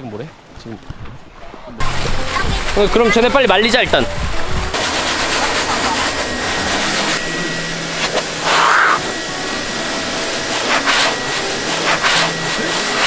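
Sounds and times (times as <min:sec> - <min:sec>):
pet blow dryer blowing air: 0:01.8 - 0:13.0.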